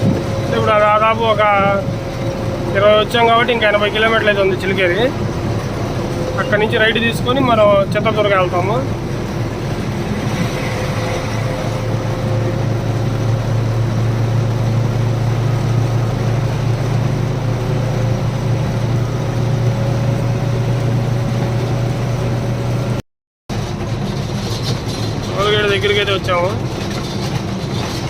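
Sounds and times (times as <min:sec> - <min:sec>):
lorry diesel engine drone: 0:00.0 - 0:28.0
road noise: 0:00.0 - 0:28.0.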